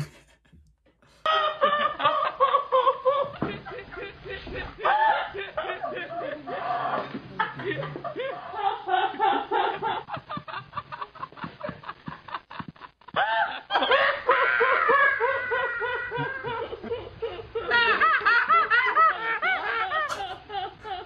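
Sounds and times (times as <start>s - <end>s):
woman laughing hard: 1.2s - 21.0s.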